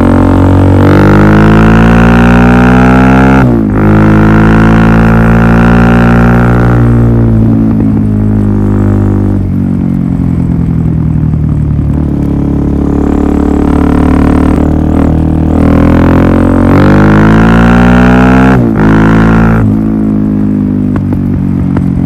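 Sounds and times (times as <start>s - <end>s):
motorcycle engine exhaust note: 0.0s - 22.0s.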